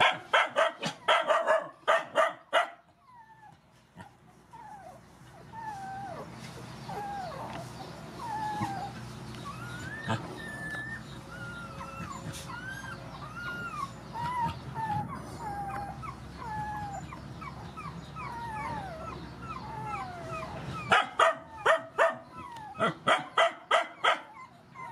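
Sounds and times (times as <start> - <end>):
puppies yipping: 0.0 - 24.9
puppies whining: 2.2 - 24.9.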